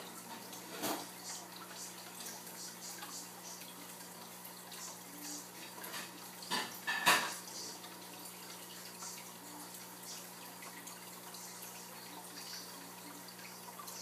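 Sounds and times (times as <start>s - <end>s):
filter humming: 0.0s - 14.0s
water trickling: 0.0s - 14.0s.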